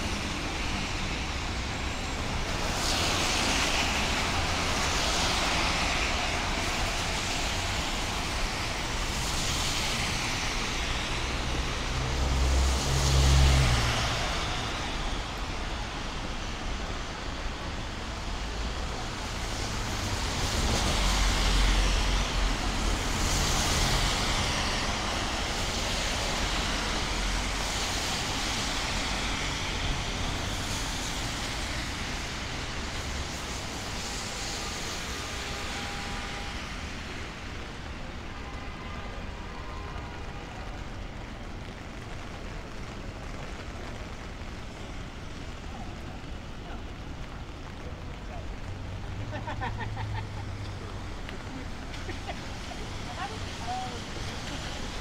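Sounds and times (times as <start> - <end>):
traffic noise: 0.0 - 55.0
tyre hiss on wet road: 0.0 - 55.0.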